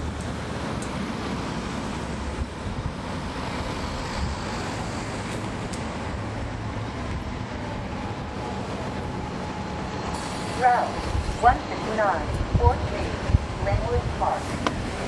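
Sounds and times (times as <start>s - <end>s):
bus diesel engine running: 0.0s - 15.0s
road and wind noise: 0.0s - 15.0s.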